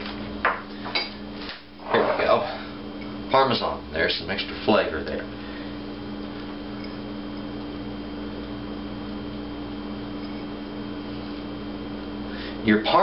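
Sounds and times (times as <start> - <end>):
low hum: 0.0 - 12.5.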